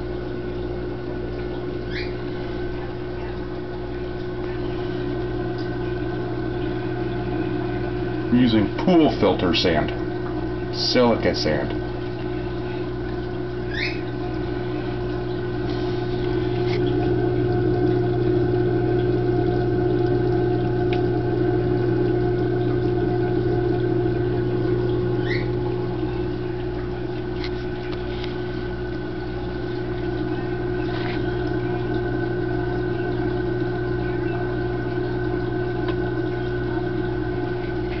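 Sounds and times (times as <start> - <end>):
aquarium pump humming: 0.0 - 38.0.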